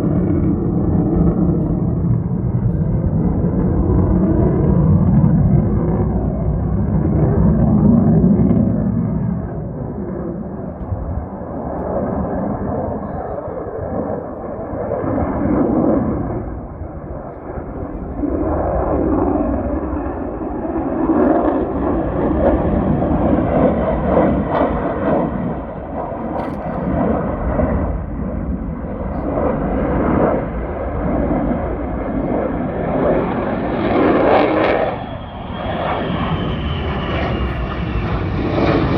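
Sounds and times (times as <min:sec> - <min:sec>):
fighter jet rumbling in flight: 0:00.0 - 0:38.9.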